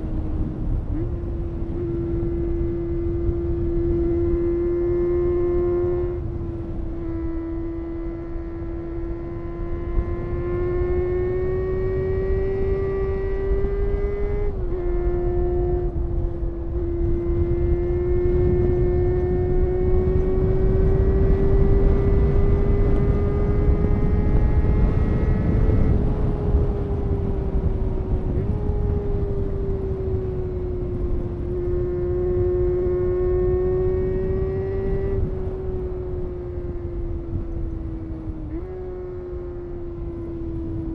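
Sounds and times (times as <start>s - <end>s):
motorcycle engine at high revs: 0.0s - 40.9s
wind and road noise: 0.0s - 40.9s.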